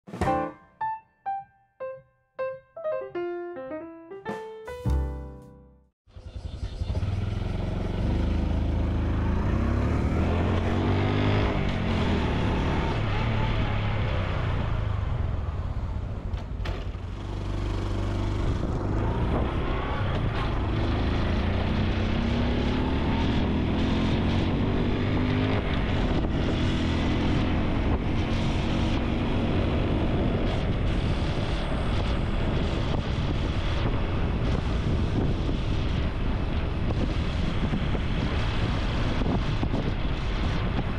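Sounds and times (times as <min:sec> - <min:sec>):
motorcycle engine accelerating: 0:06.1 - 0:40.9.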